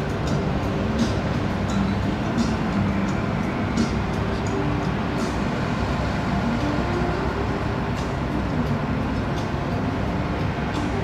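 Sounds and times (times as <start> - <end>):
faint wavering tones: 0.0 - 11.0
low rumbling noise: 0.0 - 11.0.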